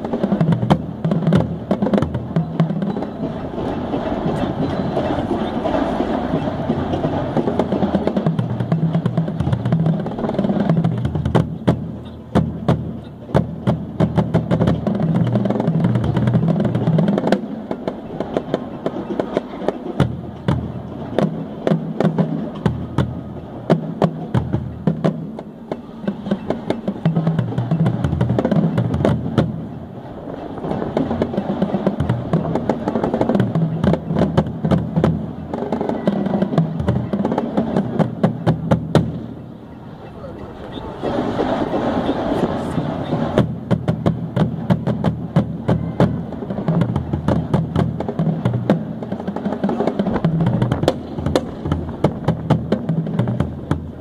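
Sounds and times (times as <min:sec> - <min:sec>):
marching bass drums: 0:00.0 - 0:29.8, 0:30.6 - 0:39.4, 0:41.8 - 0:54.0.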